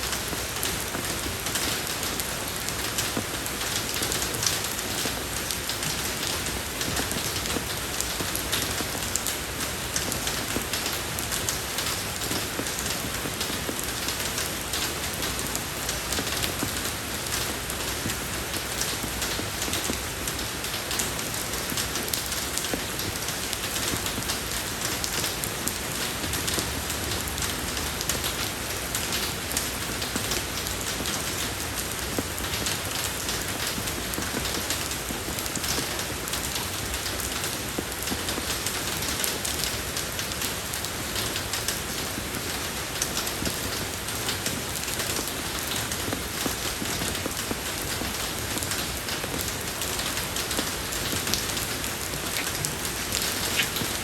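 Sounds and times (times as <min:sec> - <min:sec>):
rain falling on road: 0:00.0 - 0:54.0.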